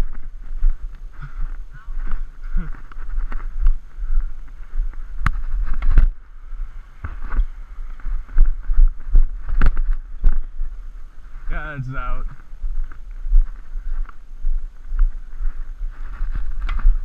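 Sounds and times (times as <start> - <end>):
low microphone rumble: 0.0 - 17.0.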